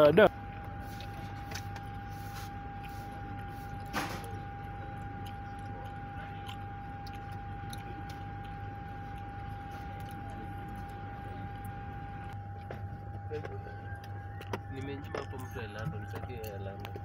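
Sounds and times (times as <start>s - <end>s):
high-pitched electrical whine: 0.0s - 17.0s
low hum: 0.0s - 17.0s.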